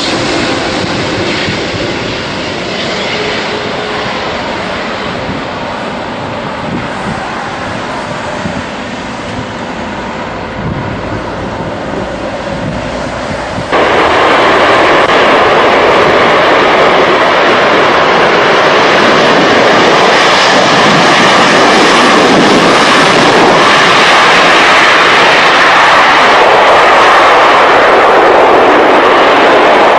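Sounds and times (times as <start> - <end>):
jet engines rushing: 0.0 - 29.9.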